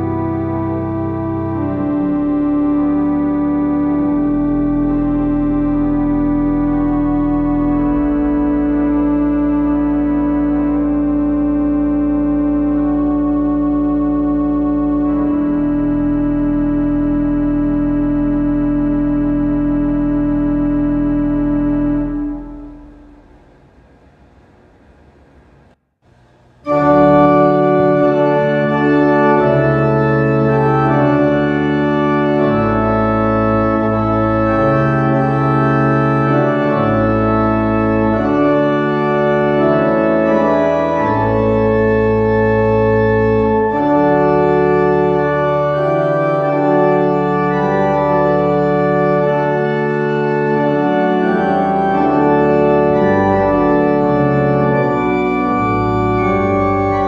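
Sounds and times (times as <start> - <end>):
church organ chords: 0.0 - 23.8, 26.1 - 57.0.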